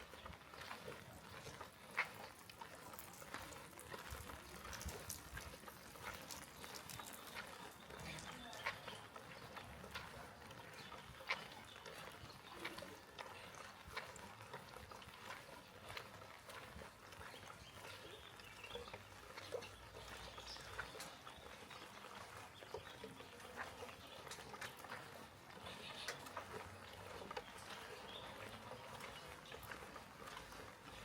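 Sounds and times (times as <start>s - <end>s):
drips and taps: 0.0s - 31.0s.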